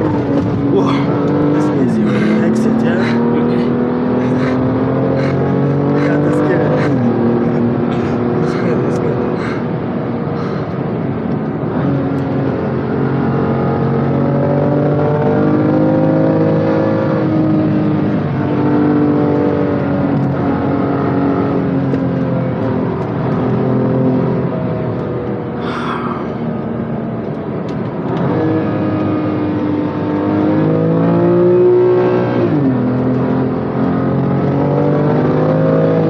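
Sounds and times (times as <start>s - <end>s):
car engine accelerating and shifting: 0.0s - 36.0s.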